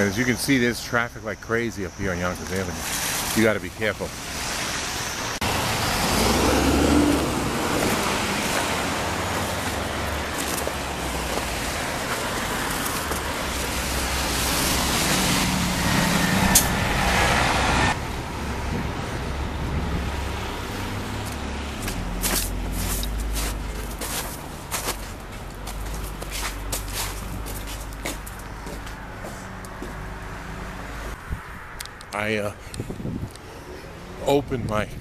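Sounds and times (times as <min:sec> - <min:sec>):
cars passing on busy road: 0:00.0 - 0:35.0.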